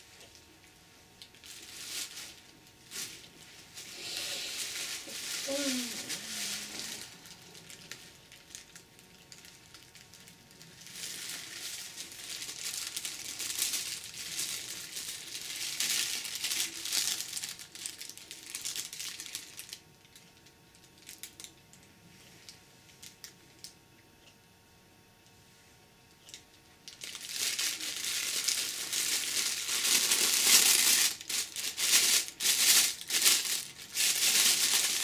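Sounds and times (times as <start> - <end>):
bubble wrap and plastic crinkling: 0.0 - 23.8, 26.2 - 35.0.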